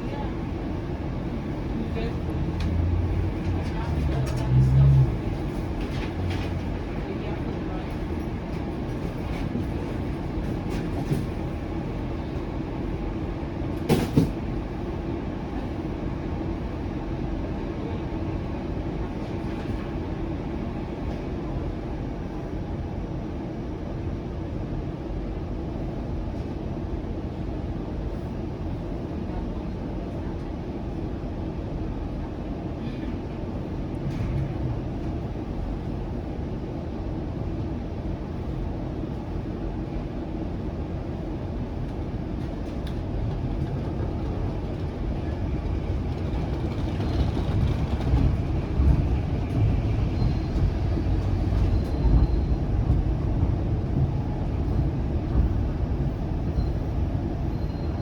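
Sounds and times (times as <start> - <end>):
wheels rumbling on rails: 0.0 - 23.0, 25.8 - 58.0
streetcar motor hum: 0.0 - 58.0.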